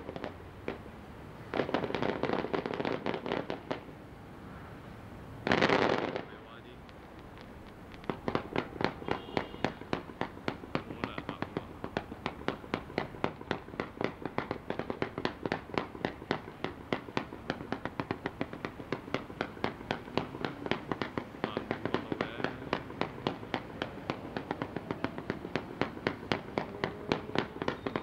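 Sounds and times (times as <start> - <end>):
fireworks bangs and cracks: 0.0 - 3.9, 5.4 - 28.0.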